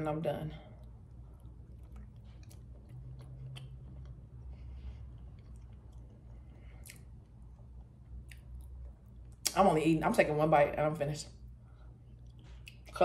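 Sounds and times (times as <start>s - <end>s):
low steady hum: 0.0s - 13.0s
chewing food: 0.6s - 9.6s, 11.4s - 13.0s.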